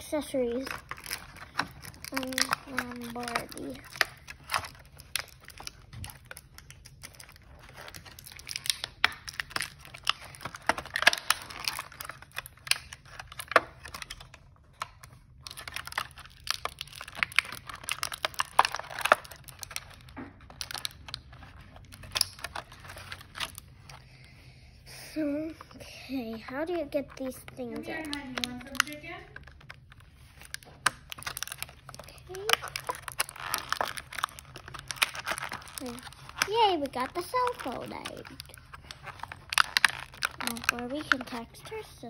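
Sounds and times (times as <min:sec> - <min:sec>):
plastic tearing: 0:00.0 - 0:24.2, 0:26.3 - 0:42.0
plastic packaging crinkling: 0:00.0 - 0:24.4, 0:25.4 - 0:42.0.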